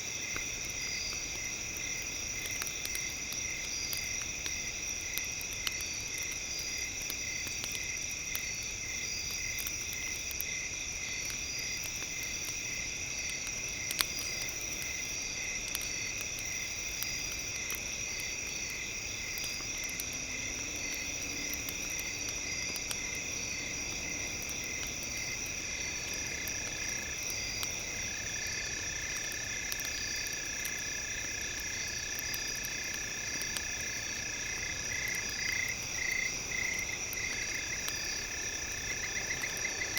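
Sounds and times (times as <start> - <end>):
insects chirping: 0.0 - 39.9
wood fire crackling: 0.0 - 39.9.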